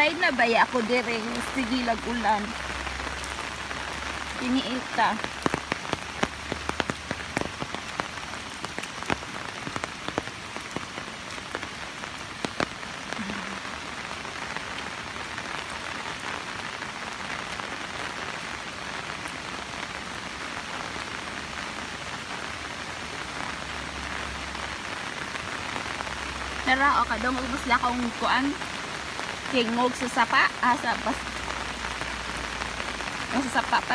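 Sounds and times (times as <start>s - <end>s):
heavy rain: 0.0s - 33.9s
sharp raindrop impacts: 0.0s - 33.9s.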